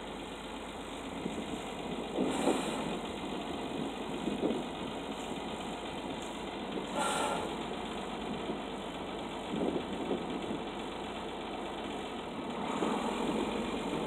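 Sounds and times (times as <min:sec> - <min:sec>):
diesel tractor engine running: 0:00.0 - 0:14.0.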